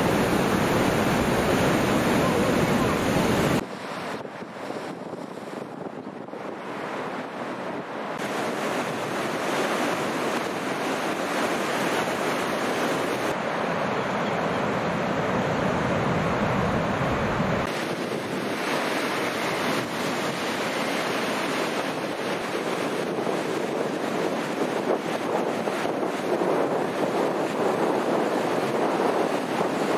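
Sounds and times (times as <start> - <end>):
wind on microphone: 0.0 - 13.4, 14.6 - 29.9
ocean surf breaking: 0.0 - 29.9.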